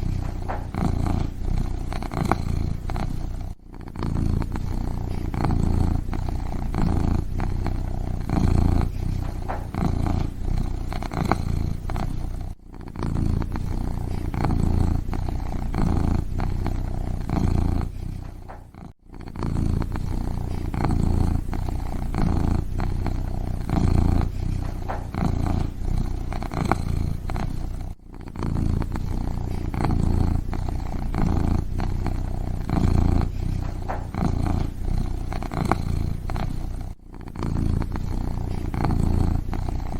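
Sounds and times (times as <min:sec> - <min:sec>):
kitten purring: 0:00.0 - 0:39.9.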